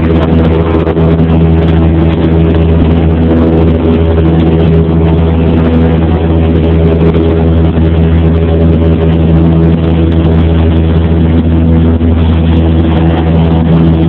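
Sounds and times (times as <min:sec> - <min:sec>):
airplane engine droning in cabin: 0:00.0 - 0:14.0.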